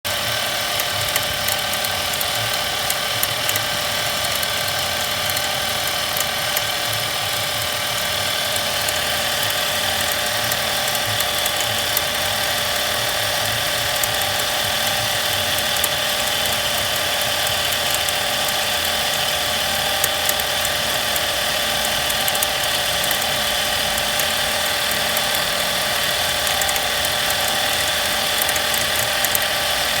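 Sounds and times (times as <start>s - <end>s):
engine whine: 0.0s - 30.0s
ticking knocks from alternator: 0.0s - 30.0s.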